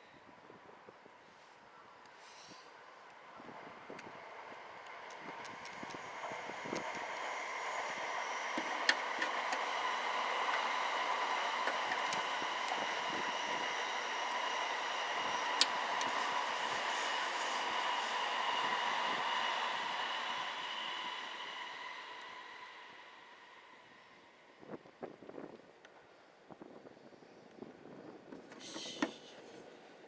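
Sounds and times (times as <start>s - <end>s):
electric train running past: 2.8s - 28.4s.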